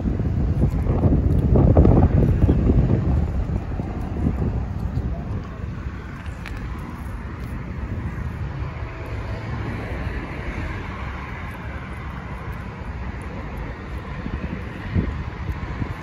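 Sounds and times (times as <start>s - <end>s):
low outdoor rumble: 0.0s - 16.0s
cat chewing dry kibble: 0.2s - 16.0s.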